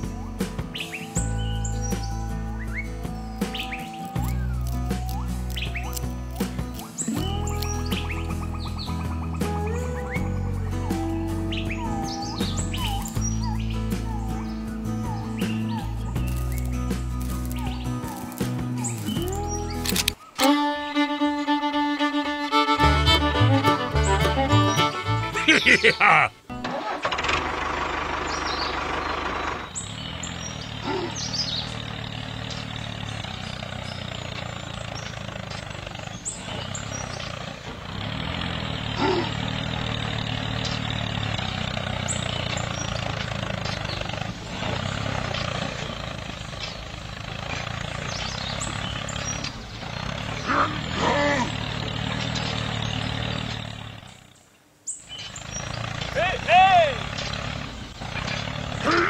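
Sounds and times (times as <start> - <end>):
tractor diesel engine chugging: 0.0 - 54.4, 55.1 - 59.0.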